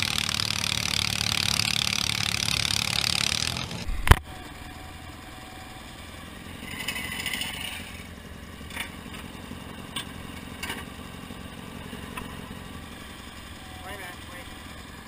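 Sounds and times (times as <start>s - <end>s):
garden tractor engine running: 0.0s - 15.0s.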